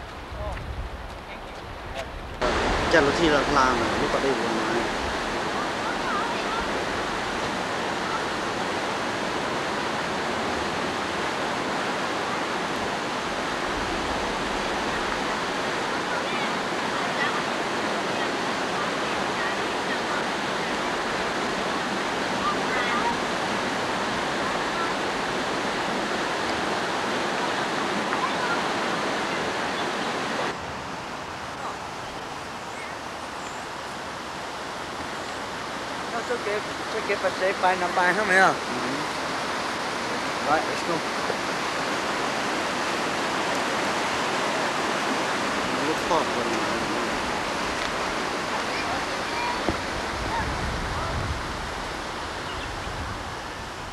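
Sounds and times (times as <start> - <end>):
water rushing over weir: 2.4 - 53.9.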